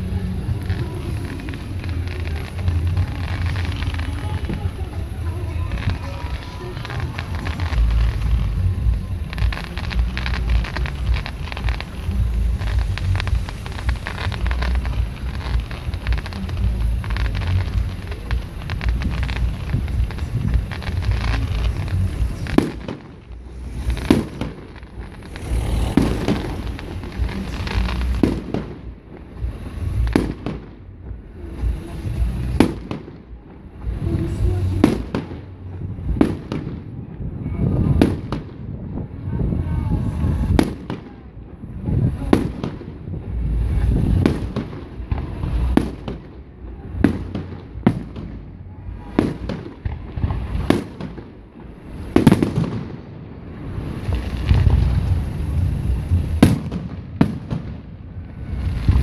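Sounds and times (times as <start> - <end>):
fireworks bursting with rumbling echo: 0.0 - 59.0.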